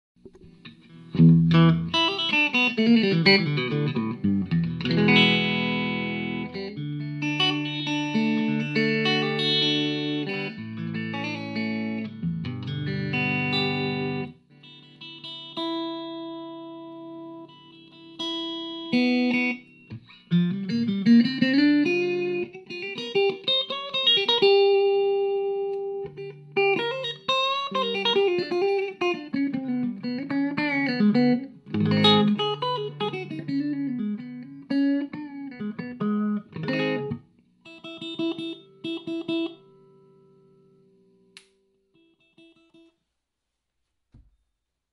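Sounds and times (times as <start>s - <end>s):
electric guitar playing: 0.4s - 42.9s.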